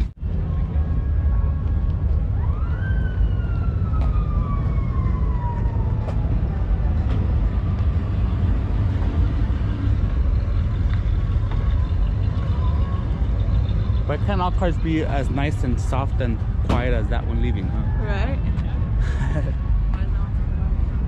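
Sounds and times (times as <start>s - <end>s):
low rumble: 0.0s - 21.0s
distant siren wailing: 0.2s - 18.5s.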